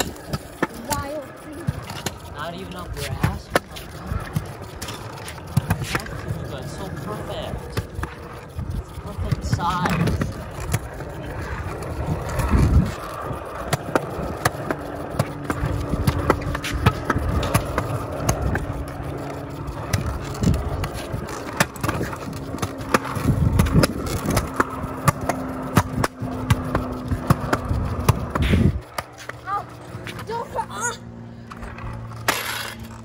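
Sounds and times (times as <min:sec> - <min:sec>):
scooter wheels rolling on concrete: 0:00.0 - 0:33.0
wheels clicking over joints: 0:00.0 - 0:33.0.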